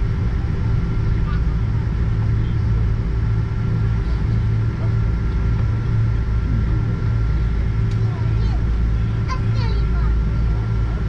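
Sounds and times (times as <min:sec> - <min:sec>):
airplane cabin rumble while taxiing: 0:00.0 - 0:11.0
faint steady hum: 0:00.0 - 0:11.0.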